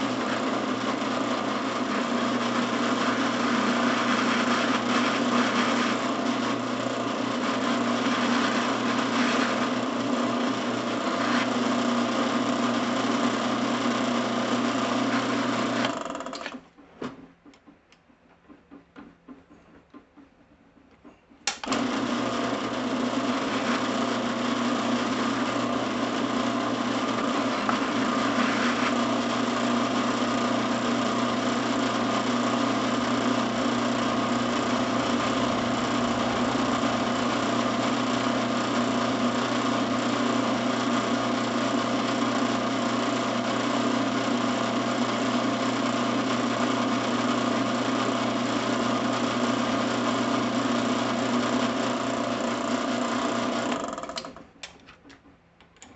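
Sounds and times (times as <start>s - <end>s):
drill press motor humming: 0.0s - 16.7s, 21.4s - 54.4s.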